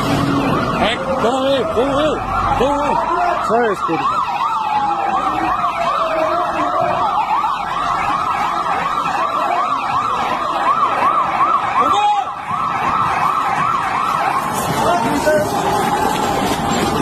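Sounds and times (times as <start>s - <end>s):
siren yelping: 0.0s - 17.0s
street noise: 0.0s - 17.0s.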